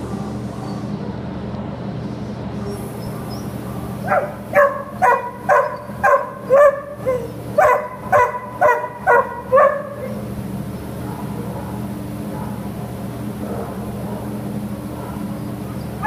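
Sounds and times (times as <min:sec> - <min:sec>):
steady low hum: 0:00.0 - 0:16.0
dog barking: 0:02.6 - 0:16.0.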